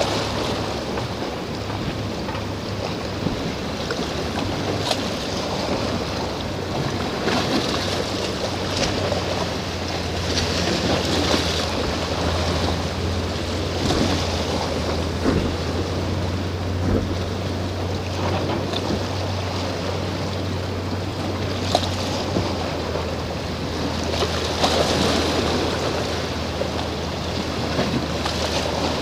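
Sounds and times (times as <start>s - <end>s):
steady low hum: 0.0s - 29.0s
surf washing on shore: 0.0s - 29.0s.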